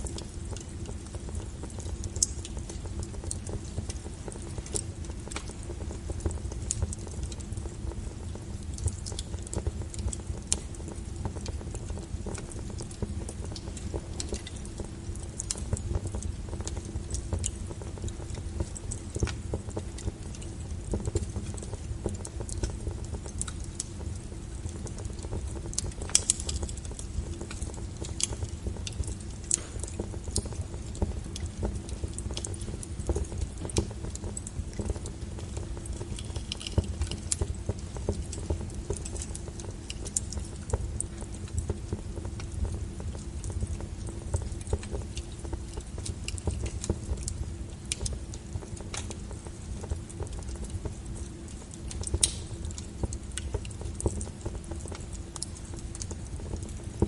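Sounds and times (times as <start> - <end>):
fire low rumble: 0.0 - 57.0
logs crackling and popping: 0.0 - 57.0.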